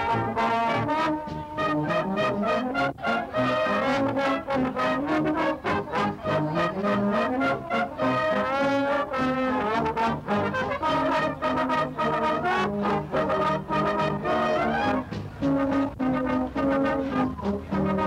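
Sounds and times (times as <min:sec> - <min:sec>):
brass instruments playing a tune: 0:00.0 - 0:18.0.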